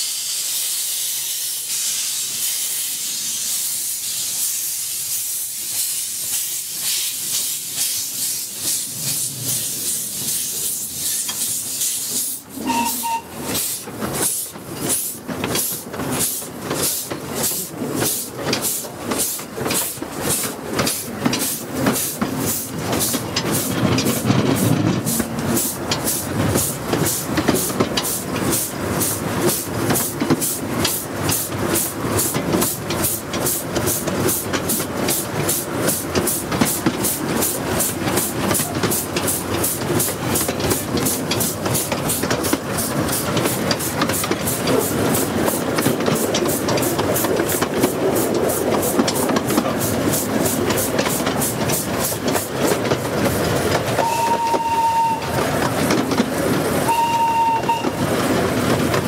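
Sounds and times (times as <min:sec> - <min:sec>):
steam locomotive exhaust beats: 0:00.0 - 0:59.0.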